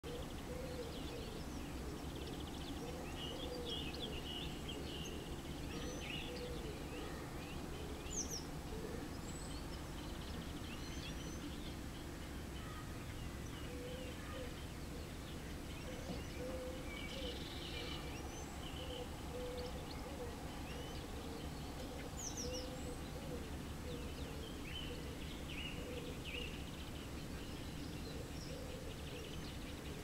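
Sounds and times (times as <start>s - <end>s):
small songbirds chirping: 0.0s - 30.0s.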